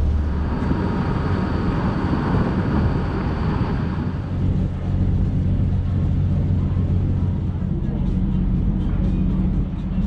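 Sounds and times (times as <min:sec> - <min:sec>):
boat diesel engine rumble: 0:00.0 - 0:10.0
wind noise on microphone: 0:00.0 - 0:10.0.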